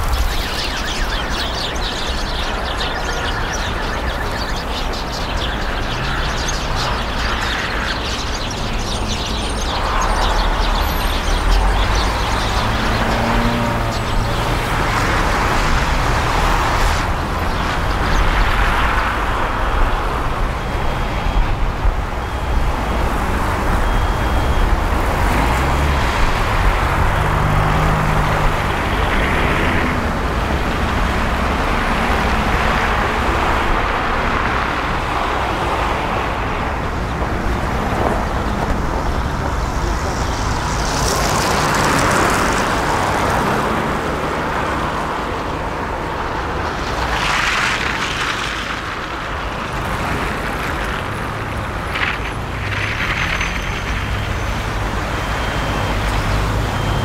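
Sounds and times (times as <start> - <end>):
cars driving on snowy road: 0.0 - 57.0
vehicles passing: 0.0 - 57.0.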